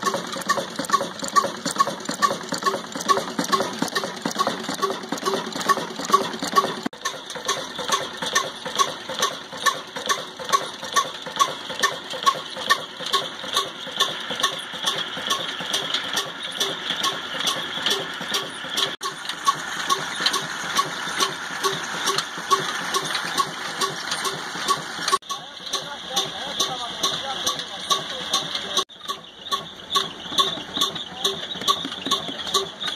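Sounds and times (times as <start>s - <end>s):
diesel engine running slowly: 0.0s - 32.9s.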